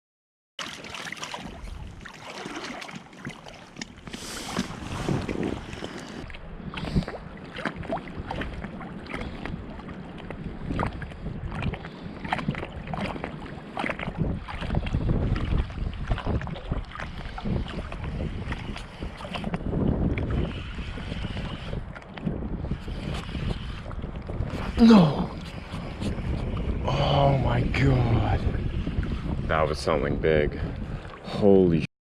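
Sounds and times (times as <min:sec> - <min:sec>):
wind buffeting microphone: 0:01.4 - 0:02.9, 0:03.7 - 0:31.8.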